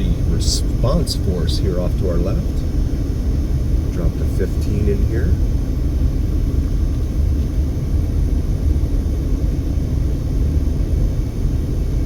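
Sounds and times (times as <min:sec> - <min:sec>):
car driving inside cabin rumble: 0:00.0 - 0:12.0.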